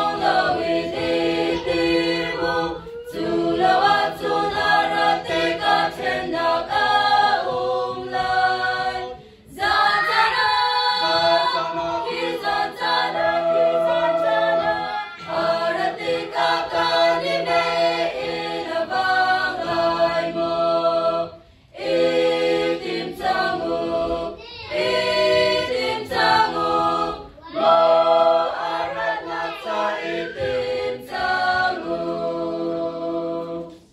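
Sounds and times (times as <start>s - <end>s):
women's choir singing a cappella: 0.0s - 33.9s.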